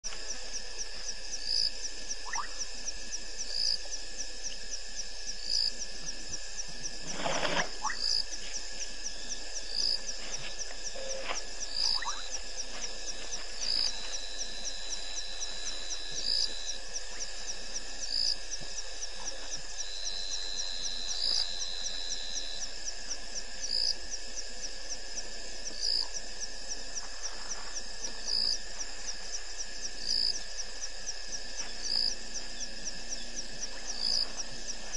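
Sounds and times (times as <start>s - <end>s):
insect chirping: 0.0s - 34.9s
insects trilling: 0.0s - 34.9s.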